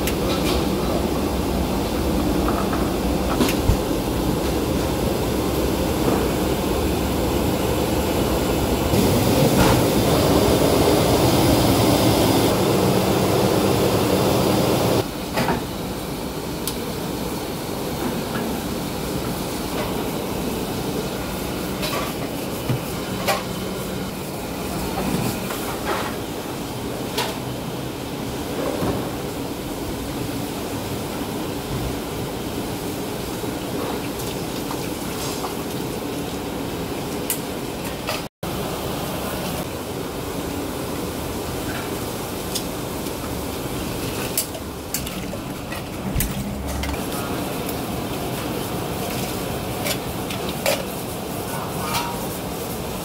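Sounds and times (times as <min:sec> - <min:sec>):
gas burner roaring: 0:00.0 - 0:27.3, 0:37.2 - 0:53.0.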